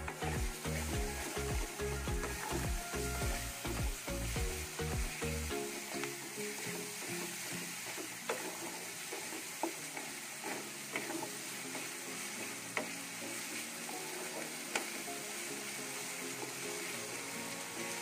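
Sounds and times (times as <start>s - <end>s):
sauce sizzling: 0.0s - 18.0s.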